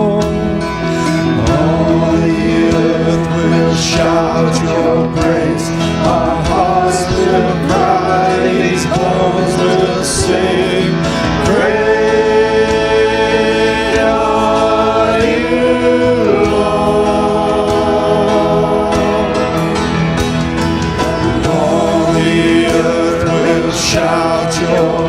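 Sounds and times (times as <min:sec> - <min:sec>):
person singing worship song: 0:00.0 - 0:20.0, 0:21.2 - 0:25.0
instrumental accompaniment: 0:00.0 - 0:25.0.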